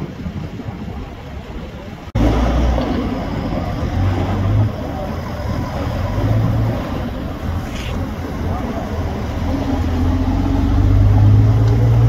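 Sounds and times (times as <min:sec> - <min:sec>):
street traffic: 0:02.1 - 0:12.0
truck engine droning: 0:02.1 - 0:12.0.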